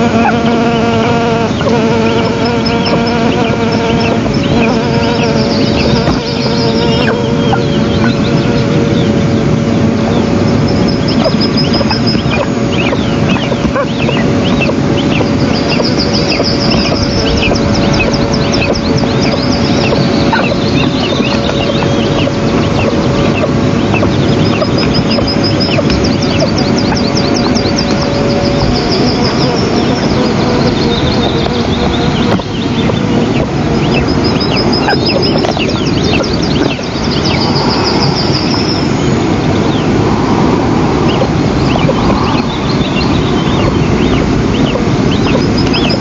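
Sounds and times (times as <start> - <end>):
eagle chicks chirping: 0.0 - 46.0
steady rushing noise: 0.0 - 46.0.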